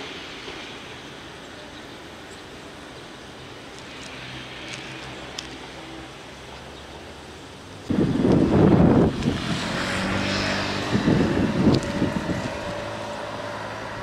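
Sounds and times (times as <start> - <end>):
open-air background noise: 0.0 - 14.0.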